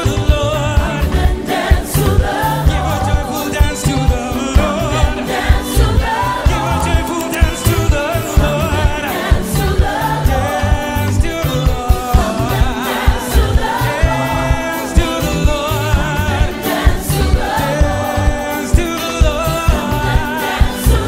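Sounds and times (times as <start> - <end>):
driving drum beat: 0.0 - 21.0
group of voices singing: 0.0 - 21.0.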